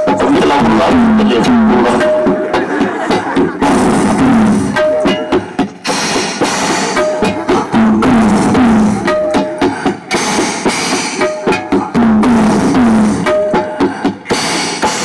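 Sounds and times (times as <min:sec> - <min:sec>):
drum music over loudspeakers: 0:00.0 - 0:15.0.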